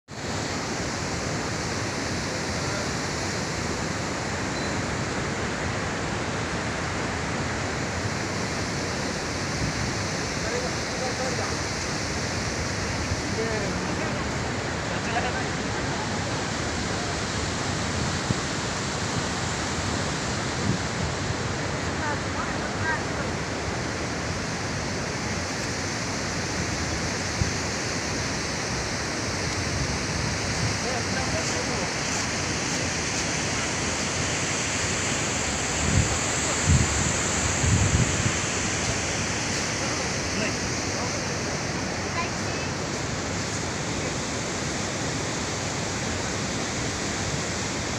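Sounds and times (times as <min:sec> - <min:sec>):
waterfall rushing: 0:00.1 - 0:47.9.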